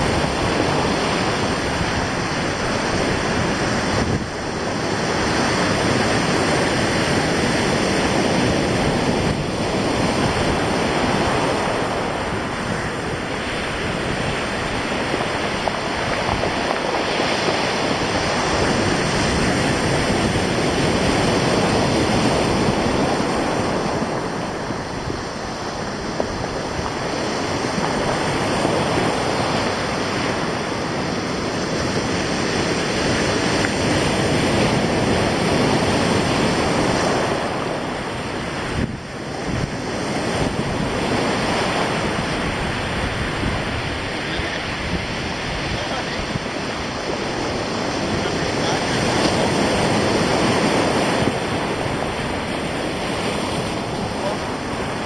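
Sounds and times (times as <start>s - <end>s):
surf breaking on stony beach: 0.0s - 55.0s
wind over microphone: 0.0s - 55.0s.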